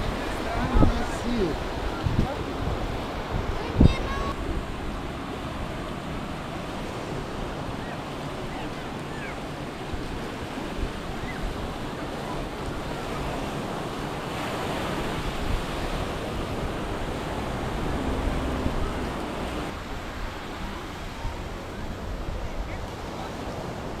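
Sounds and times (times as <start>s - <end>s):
small waves washing onto sand: 0.0s - 24.0s
wind buffeting microphone: 0.0s - 24.0s.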